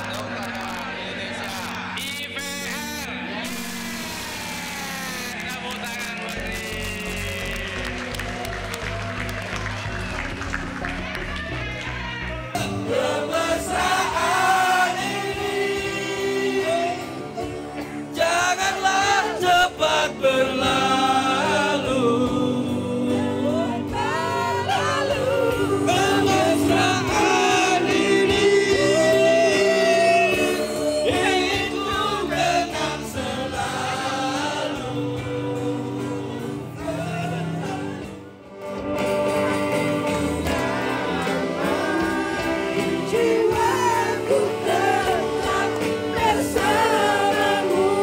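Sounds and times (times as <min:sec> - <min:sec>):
group singing: 0:00.0 - 0:04.8, 0:12.0 - 0:48.0
accompanying music: 0:00.0 - 0:48.0.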